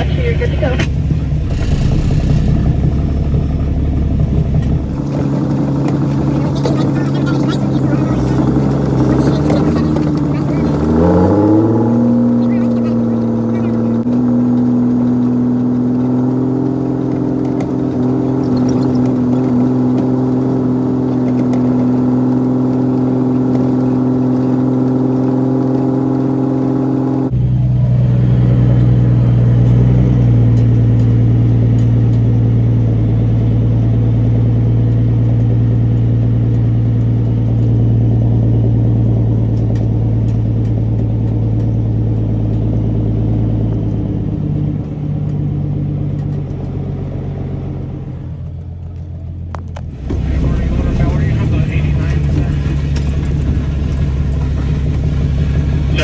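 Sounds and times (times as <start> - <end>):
truck diesel engine droning: 0.0 - 56.0.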